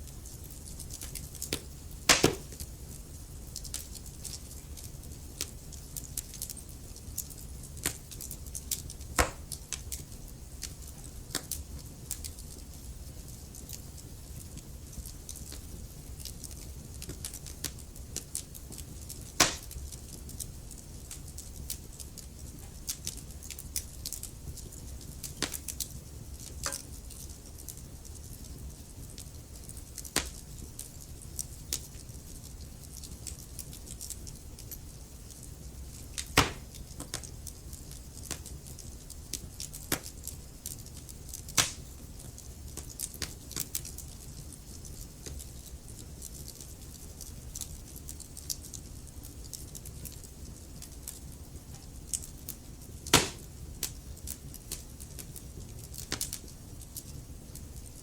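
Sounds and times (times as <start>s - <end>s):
low rumble of flames: 0.0s - 58.0s
logs crackling and popping: 0.1s - 58.0s.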